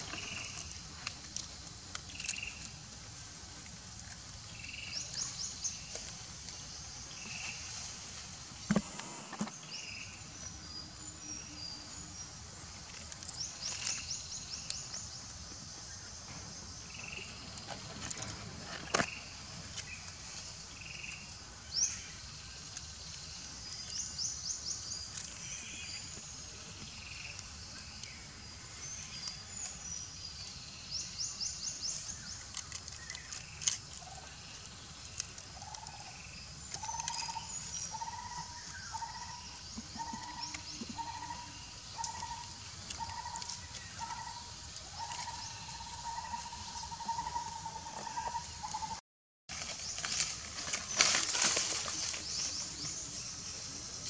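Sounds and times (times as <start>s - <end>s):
soft repeating insect call: 0.0s - 54.0s.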